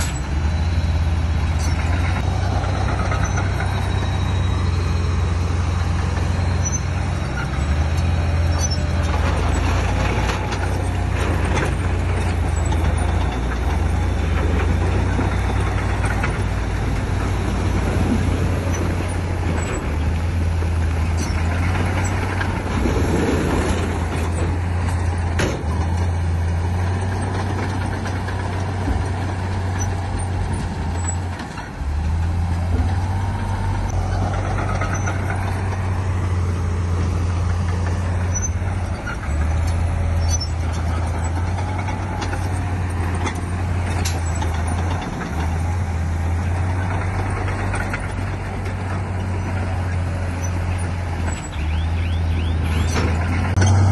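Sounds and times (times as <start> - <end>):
diesel engine drone: 0.0 - 53.9.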